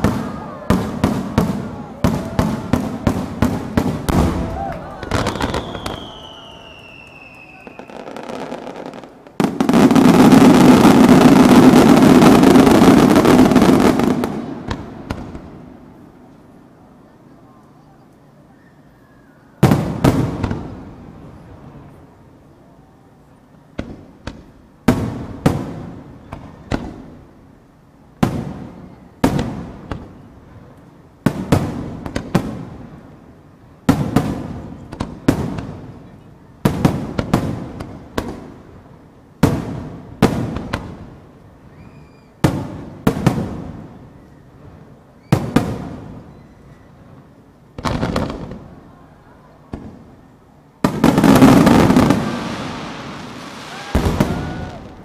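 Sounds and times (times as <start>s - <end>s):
fireworks booming with echo: 0.0s - 16.3s, 19.6s - 22.0s, 23.6s - 55.0s.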